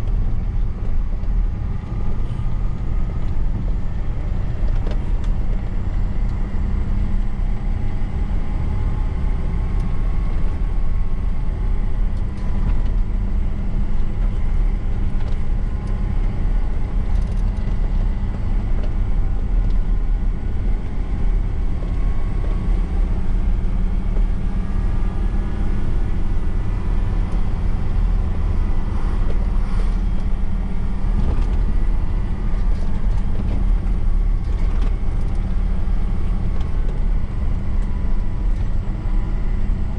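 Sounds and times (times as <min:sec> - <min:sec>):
road and tyre noise: 0:00.0 - 0:39.9
truck engine running: 0:00.0 - 0:39.9.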